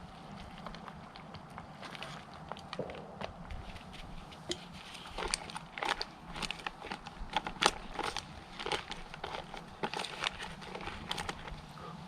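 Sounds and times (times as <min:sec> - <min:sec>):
foil pouch crinkling: 0:00.0 - 0:11.7.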